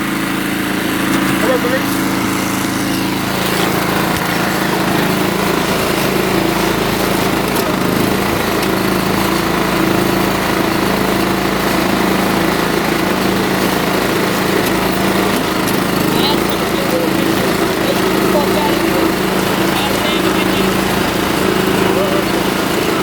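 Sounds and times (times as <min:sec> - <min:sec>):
small tractor engine running: 0:00.0 - 0:23.0.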